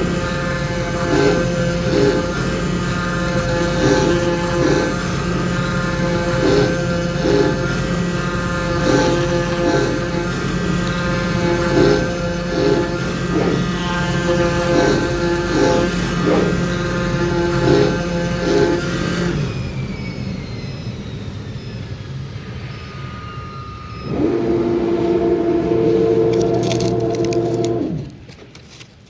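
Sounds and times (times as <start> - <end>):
foam cutting machine humming: 0.0 - 20.4, 23.8 - 28.9.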